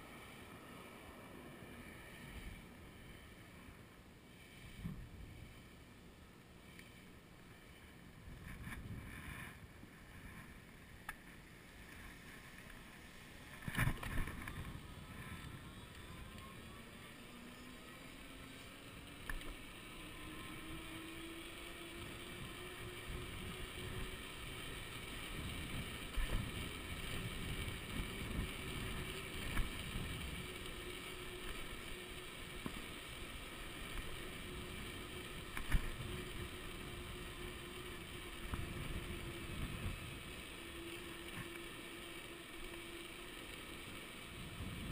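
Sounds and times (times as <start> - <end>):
electric hub motor whining: 6.6 - 44.9.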